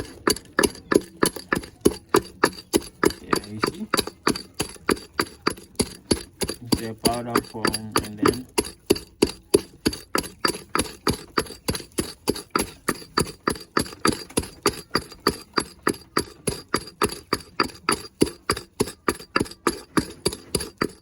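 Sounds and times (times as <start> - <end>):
charcoal being pounded: 0.0 - 21.0.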